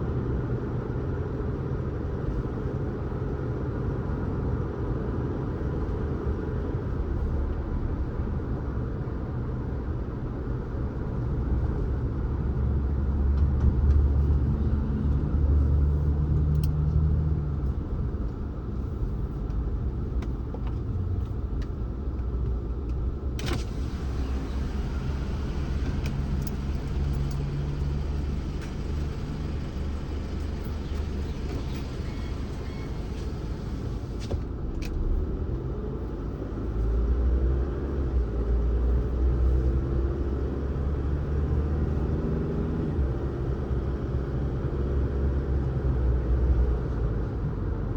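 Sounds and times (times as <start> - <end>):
car tyres and engine rumble: 0.0 - 47.9.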